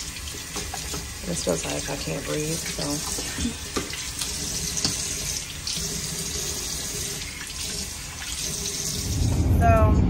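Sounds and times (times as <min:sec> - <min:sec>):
tap running into sink: 0:00.0 - 0:08.5.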